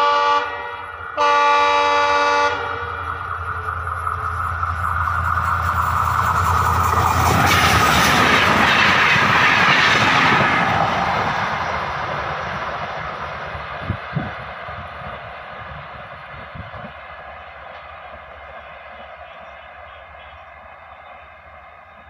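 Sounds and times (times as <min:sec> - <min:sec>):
train wheels clattering on rails: 0:01.0 - 0:20.6.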